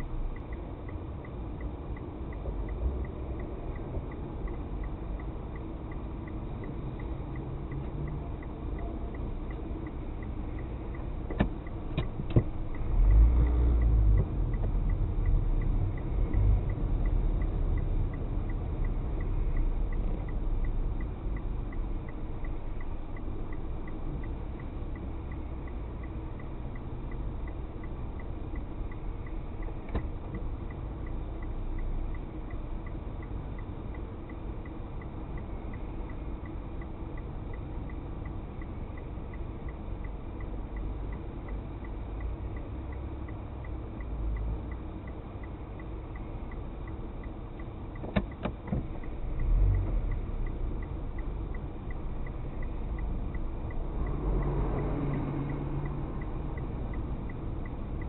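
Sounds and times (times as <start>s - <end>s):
car engine and road rumble: 0.0s - 58.0s
faint regular ticking: 0.0s - 58.0s.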